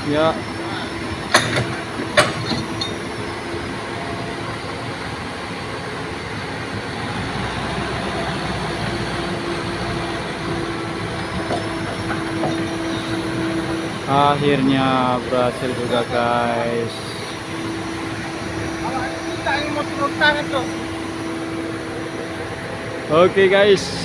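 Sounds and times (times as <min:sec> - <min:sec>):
deep drone: 0:00.0 - 0:24.0
heavy diesel engines under load: 0:00.0 - 0:24.0
steady hum: 0:00.0 - 0:24.0.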